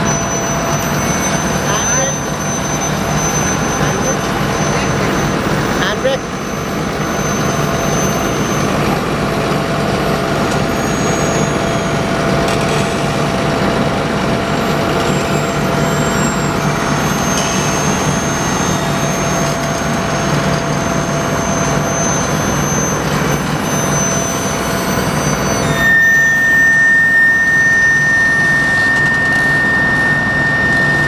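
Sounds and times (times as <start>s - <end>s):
diesel engine of paving machine: 0.0s - 31.0s
thin steady whine: 0.0s - 31.0s.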